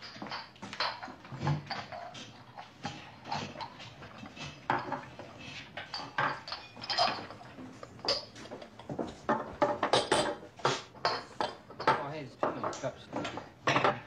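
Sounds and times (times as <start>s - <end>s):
cups and dishes clinking: 0.0s - 14.0s.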